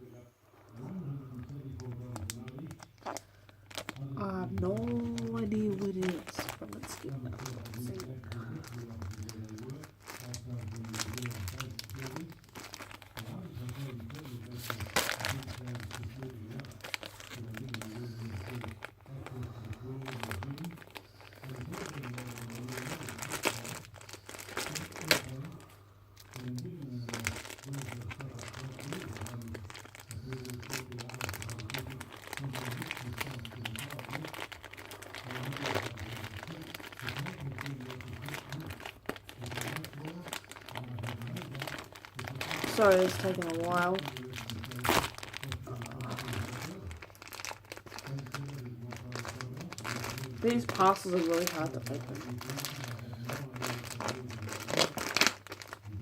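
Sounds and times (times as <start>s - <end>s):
packaging crinkling and rustling: 0.7s - 56.0s.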